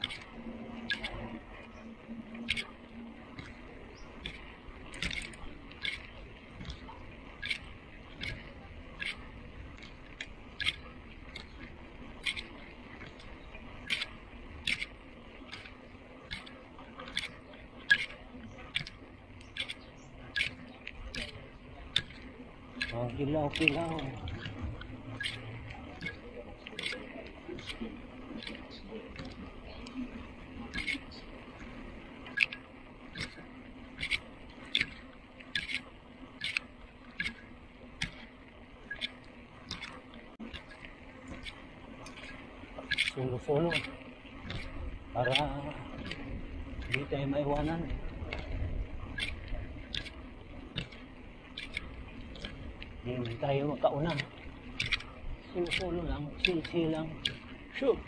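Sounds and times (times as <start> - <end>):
bicycle tyres and wind rumble: 0.0 - 58.0
bike clicks and creaks: 0.0 - 58.0
steady low hum: 0.0 - 58.0.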